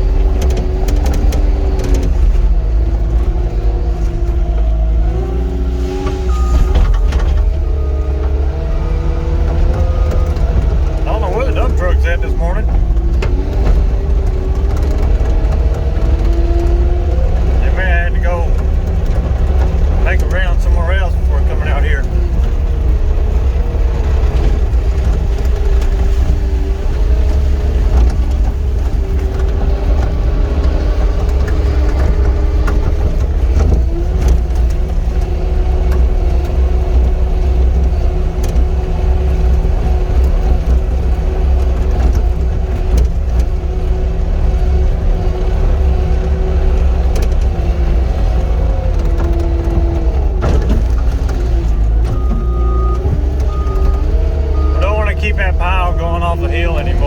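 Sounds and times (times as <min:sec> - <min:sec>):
diesel engine rumble: 0:00.0 - 0:57.0.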